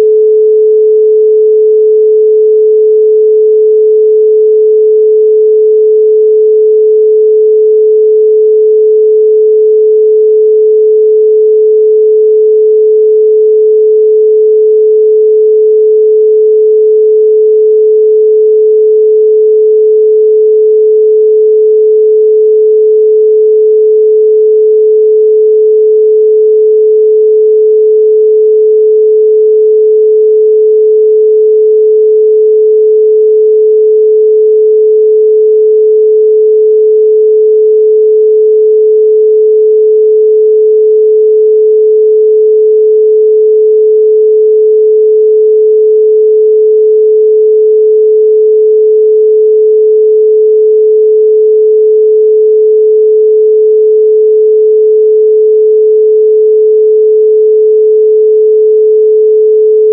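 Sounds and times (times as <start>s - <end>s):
pure sine tone: 0.0s - 59.9s.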